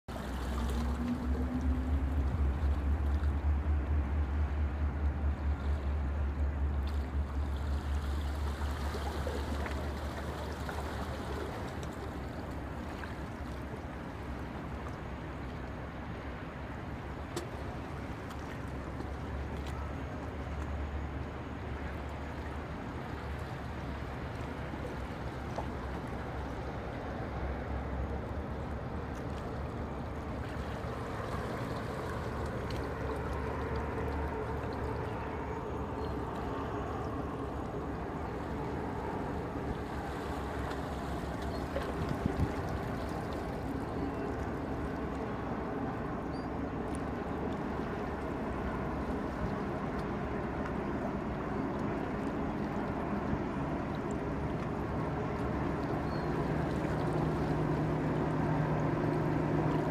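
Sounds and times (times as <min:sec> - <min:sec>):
low rumble of passing ship: 0:00.1 - 0:59.9
water washing along hull: 0:00.1 - 0:59.9.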